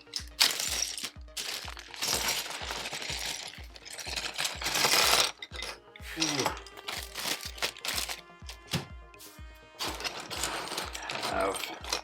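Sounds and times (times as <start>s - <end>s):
plastic toy bricks clattering: 0.0s - 8.9s, 9.8s - 12.0s.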